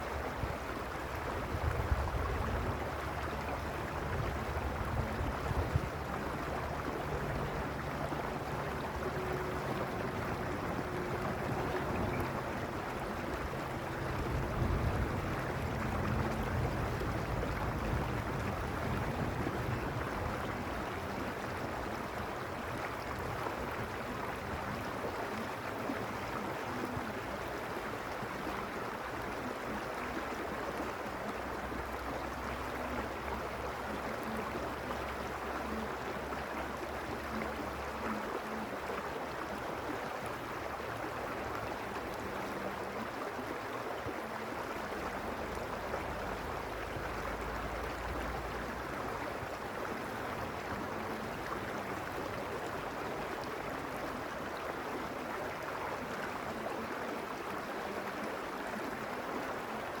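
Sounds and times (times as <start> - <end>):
creek flowing: 0.0 - 60.0.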